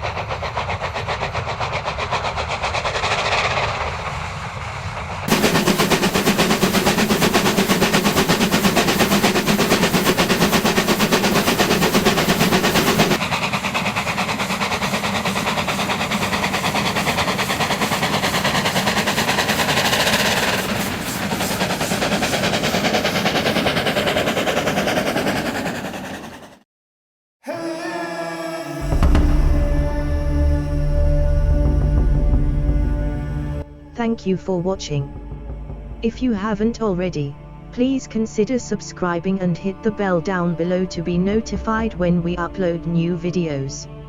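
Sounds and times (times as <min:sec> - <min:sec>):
steam locomotive exhaust chuffing: 0:00.0 - 0:26.6, 0:28.8 - 0:44.0.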